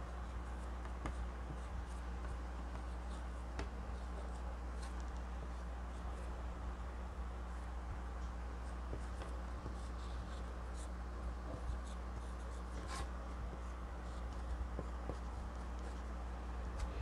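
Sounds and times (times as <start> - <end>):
steady low hum: 0.0 - 17.0
marker writing on whiteboard: 0.1 - 6.3, 8.6 - 16.9.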